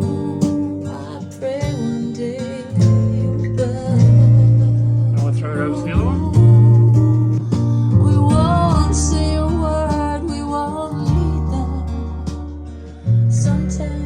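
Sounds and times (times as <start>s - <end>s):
deep bass notes: 0.0s - 14.0s
guitar: 0.0s - 14.0s
person singing: 0.0s - 14.0s.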